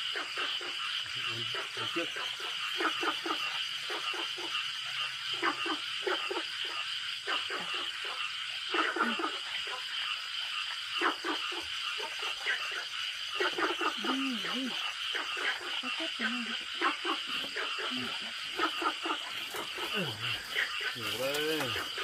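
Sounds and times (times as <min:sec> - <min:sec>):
frogs croaking: 0:00.0 - 0:22.0
high-pitched insect hum: 0:00.0 - 0:22.0.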